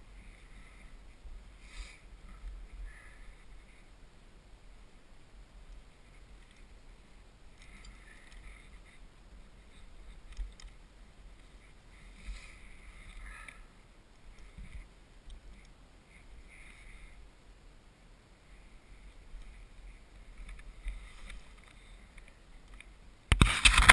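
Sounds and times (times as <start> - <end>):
faint rustles: 0.0 - 23.9
wind rumbling on camera: 0.0 - 23.9.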